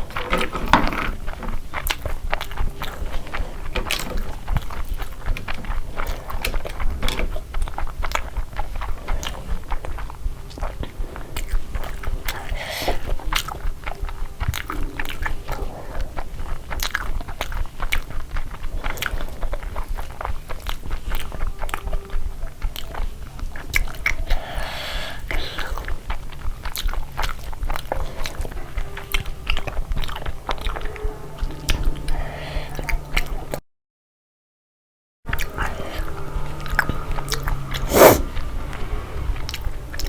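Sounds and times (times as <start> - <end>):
person chewing crunchy food: 0.0 - 33.6, 35.3 - 40.0.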